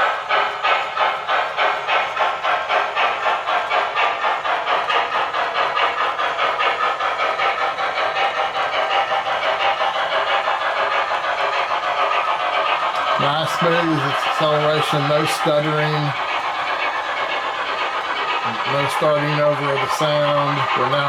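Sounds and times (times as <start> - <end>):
model locomotive exhaust chuffs: 0.0 - 21.0.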